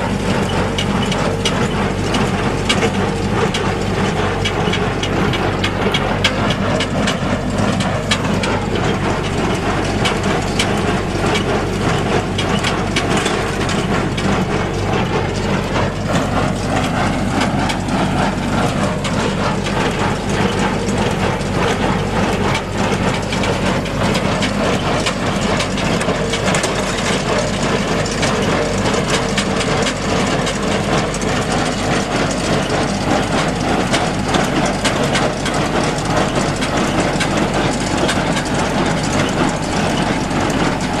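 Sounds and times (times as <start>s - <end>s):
tractor engine drone: 0.0s - 41.0s.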